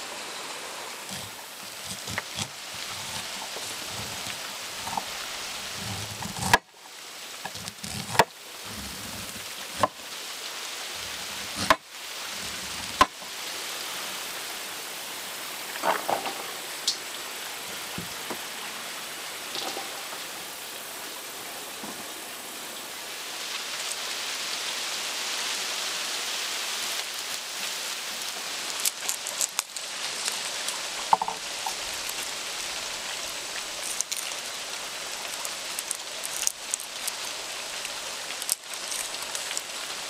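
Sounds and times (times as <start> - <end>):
food sizzling: 0.0 - 40.0.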